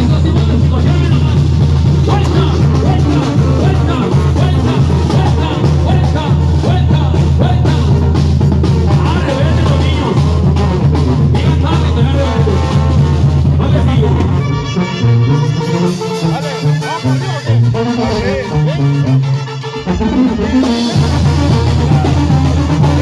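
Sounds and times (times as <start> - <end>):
brass band music: 0.0 - 23.0
drum kit: 0.0 - 23.0
low bass line: 0.0 - 23.0
trumpets: 0.0 - 23.0.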